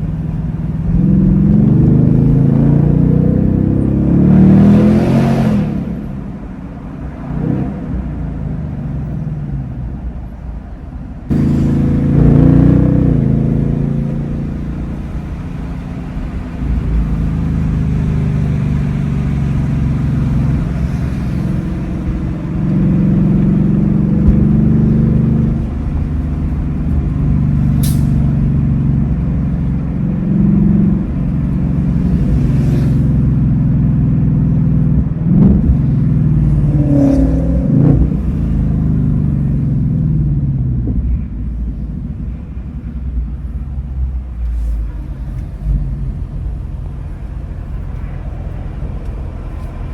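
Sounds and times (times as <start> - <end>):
car engine revving while driving: 0.0 - 9.2, 11.3 - 43.5.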